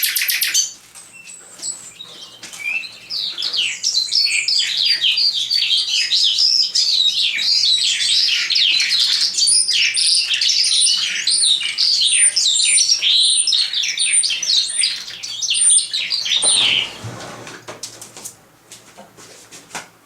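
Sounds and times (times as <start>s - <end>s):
birds warbling and trilling: 0.0s - 17.4s.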